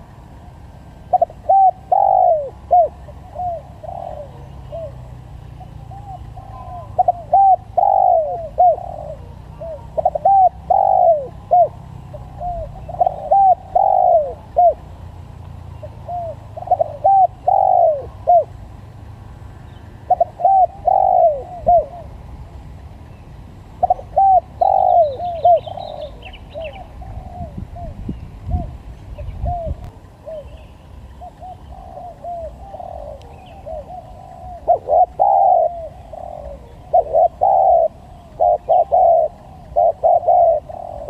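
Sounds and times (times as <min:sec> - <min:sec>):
dove cooing: 0:00.9 - 0:18.7, 0:19.6 - 0:22.3, 0:23.8 - 0:41.0.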